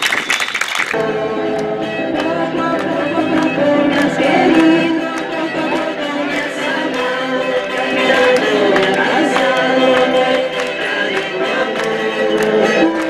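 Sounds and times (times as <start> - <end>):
person singing: 1.0 - 13.0.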